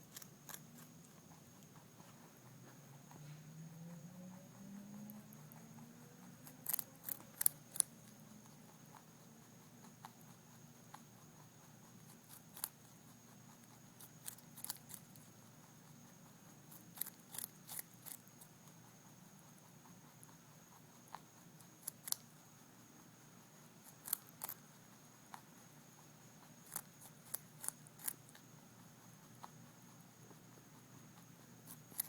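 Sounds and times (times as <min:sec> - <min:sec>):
rabbit crunching carrot: 0:00.0 - 0:32.0.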